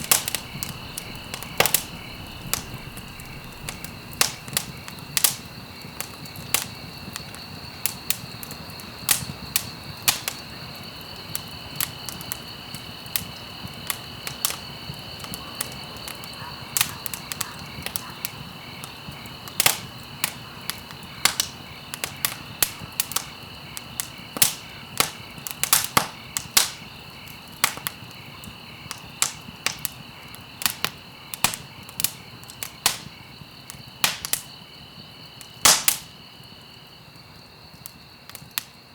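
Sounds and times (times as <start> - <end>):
campfire crackling and popping: 0.0 - 38.9
insects chirring: 0.0 - 38.9.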